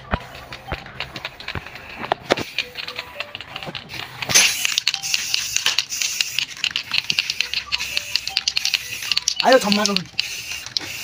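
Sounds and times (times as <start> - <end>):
faint music: 0.0 - 11.0
spray paint can hissing: 1.0 - 11.0.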